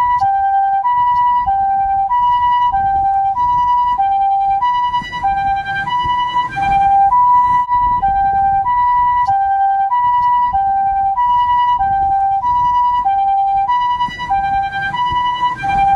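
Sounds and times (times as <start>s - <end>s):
two-tone ambulance siren: 0.0s - 15.9s.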